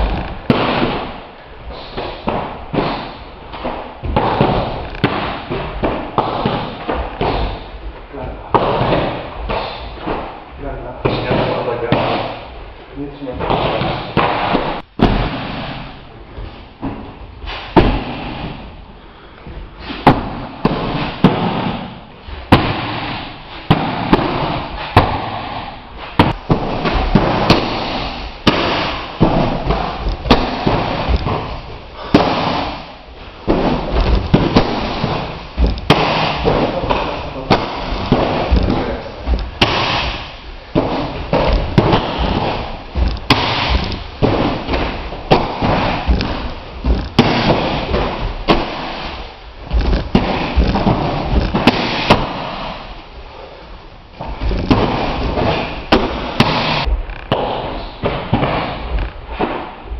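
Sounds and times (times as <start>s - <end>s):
kicks hitting strike pads: 0.0s - 1.2s, 1.9s - 10.4s, 11.0s - 12.5s, 13.2s - 16.0s, 16.8s - 18.6s, 19.9s - 53.0s, 54.2s - 59.9s
steady background noise: 0.0s - 59.9s.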